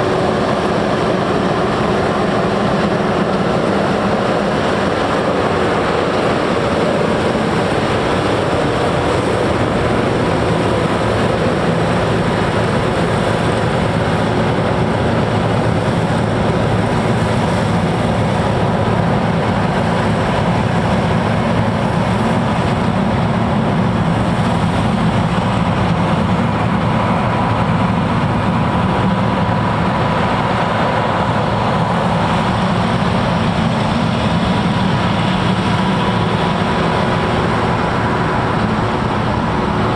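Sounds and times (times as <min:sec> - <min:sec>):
combine harvester engine drone: 0:00.0 - 0:39.9
high machinery whine: 0:00.0 - 0:39.9.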